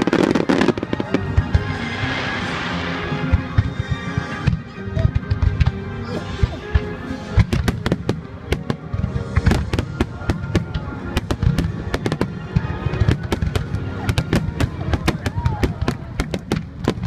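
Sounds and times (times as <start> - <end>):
fireworks bursting: 0.0 - 17.0
music playing: 0.0 - 17.0.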